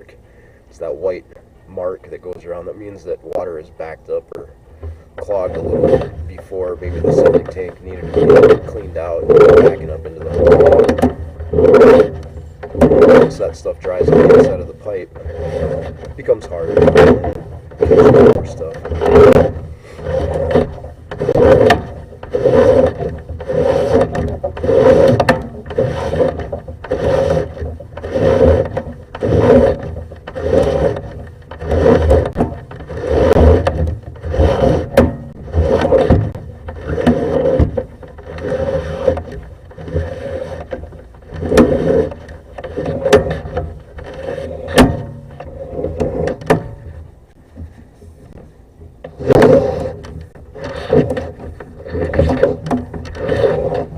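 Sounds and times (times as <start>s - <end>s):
cable scraping through drain pipe: 0.0s - 53.9s.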